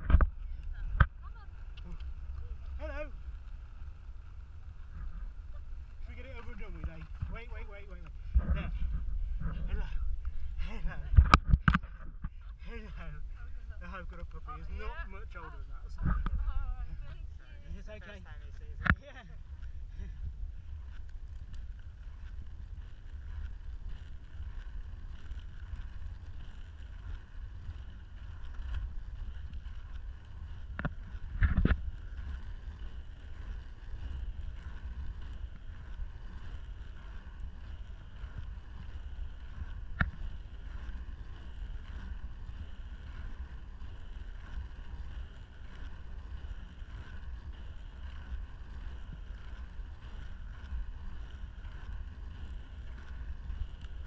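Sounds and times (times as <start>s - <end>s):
skate wheels rolling on asphalt: 0.0s - 54.0s.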